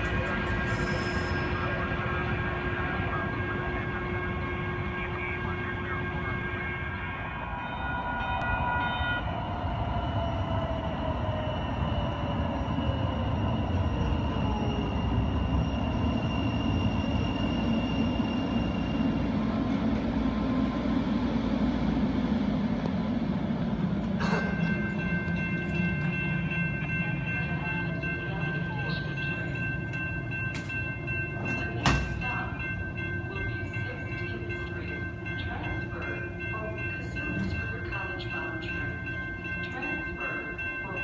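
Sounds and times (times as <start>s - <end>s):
falling train whine: 0.0s - 41.0s
train rumbling on track: 0.0s - 41.0s.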